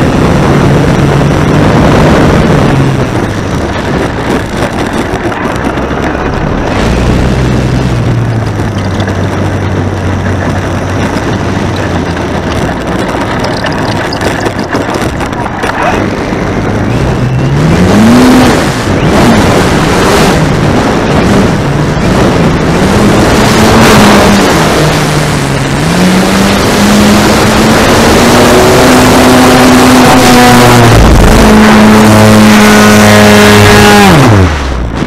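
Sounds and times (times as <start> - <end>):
model airplane motor and propeller: 0.0 - 17.6, 18.4 - 35.0
wind rush on microphone: 0.0 - 35.0.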